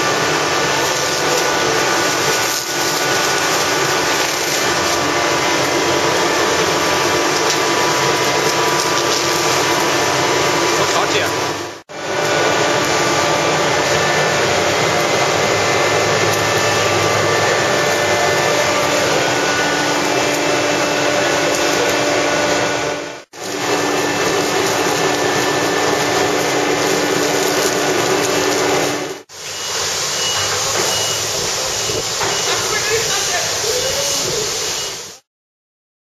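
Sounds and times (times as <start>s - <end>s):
industrial furnace machinery running: 0.0s - 35.2s.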